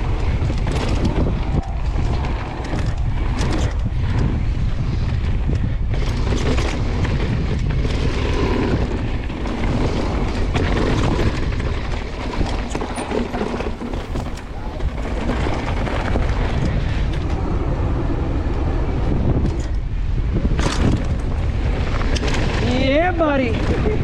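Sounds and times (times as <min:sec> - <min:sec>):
mountain bike rumbling on trail: 0:00.0 - 0:24.0
wind buffeting microphone: 0:00.0 - 0:24.0.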